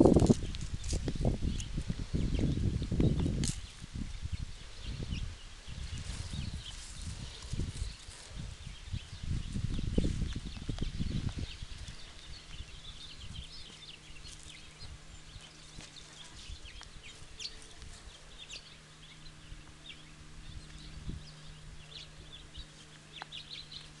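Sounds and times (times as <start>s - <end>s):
faint low hum: 0.0s - 24.0s
low rumbles: 0.0s - 24.0s
small birds chirping: 0.0s - 24.0s.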